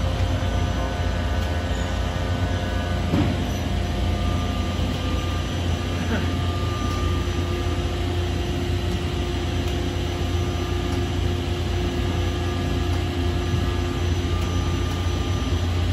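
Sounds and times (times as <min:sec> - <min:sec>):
faint steady tones: 0:00.0 - 0:15.9
vacuum pumps humming: 0:00.0 - 0:15.9.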